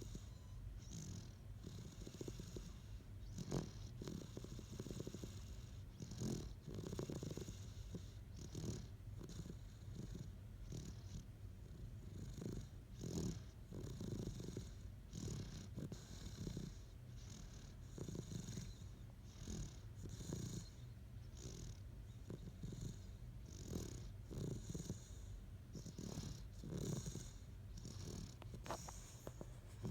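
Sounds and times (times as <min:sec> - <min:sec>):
dog snoring: 0:00.0 - 0:29.9.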